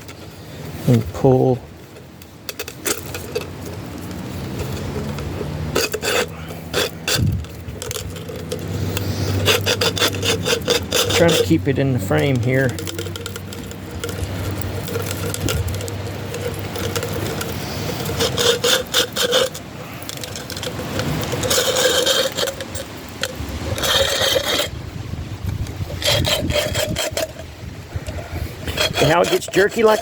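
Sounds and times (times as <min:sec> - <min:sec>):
rasping plastic scrape: 0:00.0 - 0:30.0.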